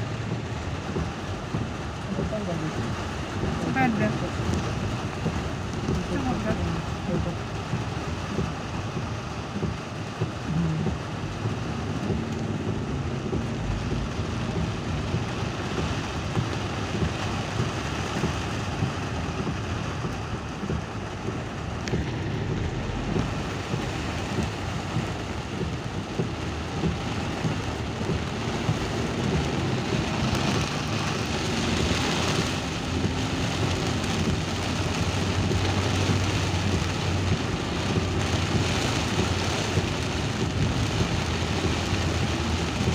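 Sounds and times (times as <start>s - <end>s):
steady rain falling: 0.0s - 42.9s
vehicle engine hum: 0.0s - 42.9s.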